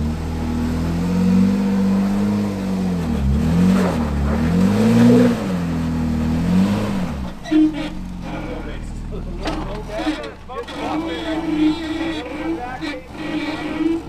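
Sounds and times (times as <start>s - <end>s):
jeep engine revving: 0.0s - 14.0s.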